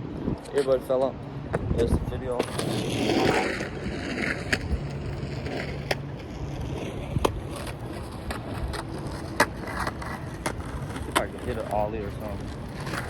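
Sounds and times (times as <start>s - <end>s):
skateboard wheels rumbling on asphalt: 0.0s - 13.0s.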